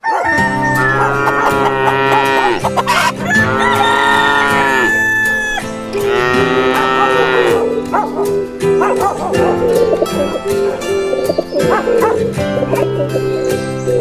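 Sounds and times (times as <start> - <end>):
farm animal calls: 0.0 - 14.0
music with long held notes: 0.3 - 14.0.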